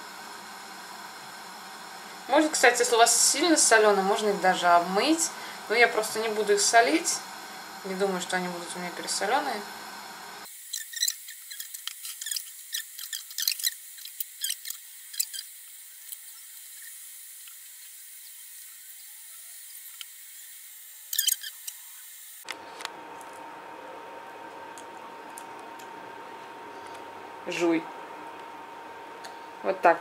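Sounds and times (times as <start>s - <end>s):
room hum with faint tone: 0.0s - 30.0s.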